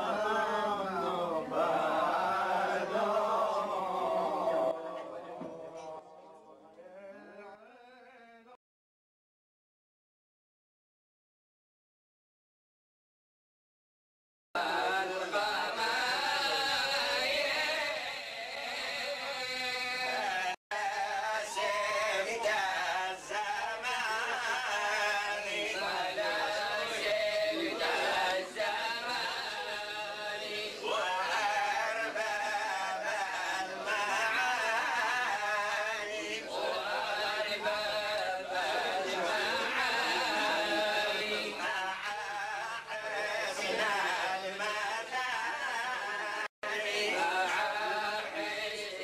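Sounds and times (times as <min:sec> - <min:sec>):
men singing together: 0:00.0 - 0:06.0, 0:14.6 - 0:49.0.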